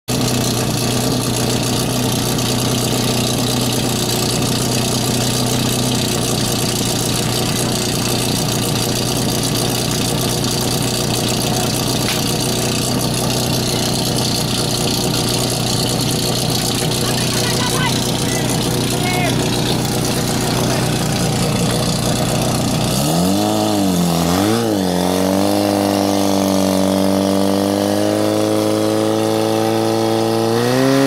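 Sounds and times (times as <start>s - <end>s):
small pump engine running: 0.1s - 31.0s.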